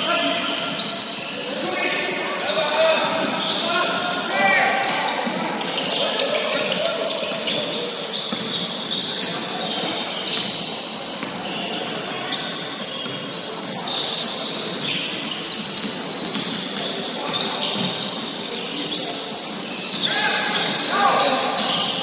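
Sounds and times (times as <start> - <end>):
sneakers squeaking on gym floor: 0.0 - 22.0.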